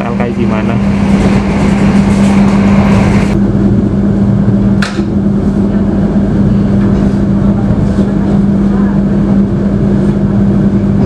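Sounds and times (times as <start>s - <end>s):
steady hum: 0.0s - 11.0s
train wheels rumbling on rails: 0.0s - 11.0s.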